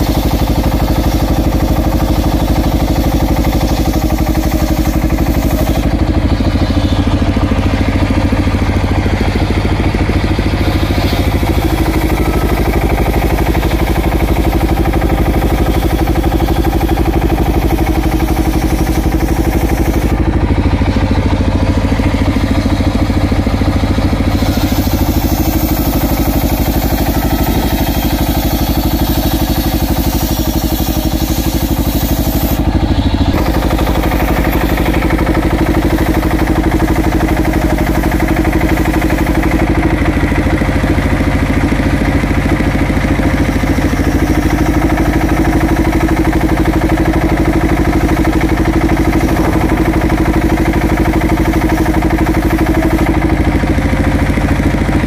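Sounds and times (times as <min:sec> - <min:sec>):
circular saw cutting timber: 0:00.0 - 0:55.0
engine running: 0:00.0 - 0:55.0.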